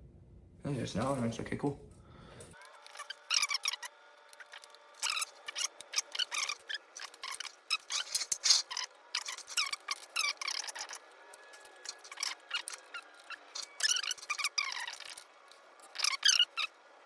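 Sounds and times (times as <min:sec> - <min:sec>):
wrench squeaking and clicking on bolts: 0:02.6 - 0:16.9.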